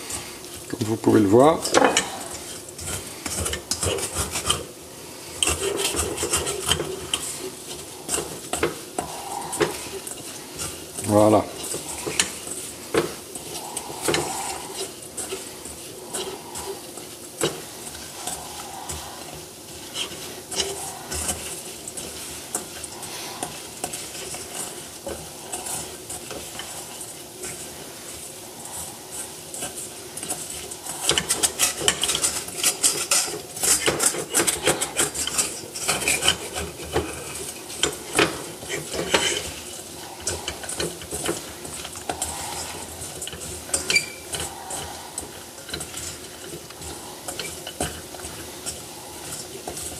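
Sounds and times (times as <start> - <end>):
nuts rattling and scraping in pan: 0.0 - 49.9.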